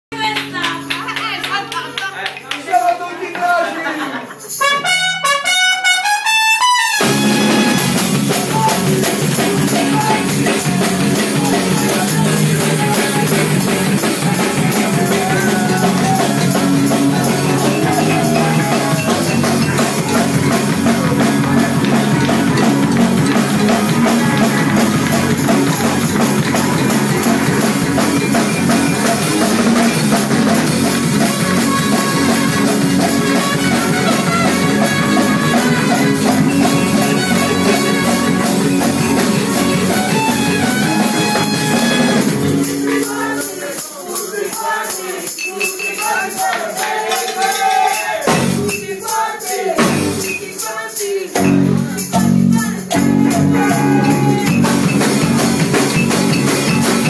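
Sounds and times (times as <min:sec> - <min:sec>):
live band playing loud music: 0:00.1 - 0:03.5, 0:04.1 - 0:57.0.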